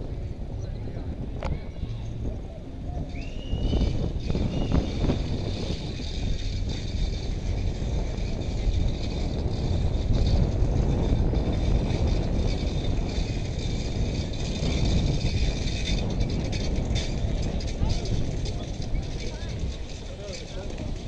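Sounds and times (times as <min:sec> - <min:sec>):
bicycle mechanical rattle: 0:00.0 - 0:21.0
wind rumbling on microphone: 0:00.0 - 0:21.0.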